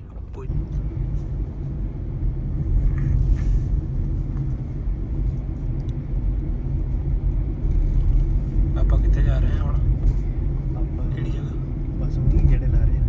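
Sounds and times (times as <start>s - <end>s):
car engine rumble from inside: 0.0s - 13.0s
tyres on the road: 0.0s - 13.0s.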